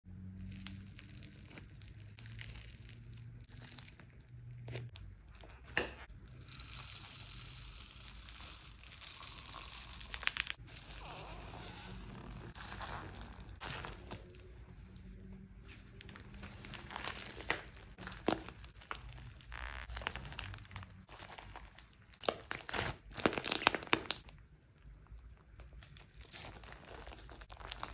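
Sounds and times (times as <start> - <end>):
foam slime crackling and popping: 0.2 - 24.4, 25.3 - 27.9.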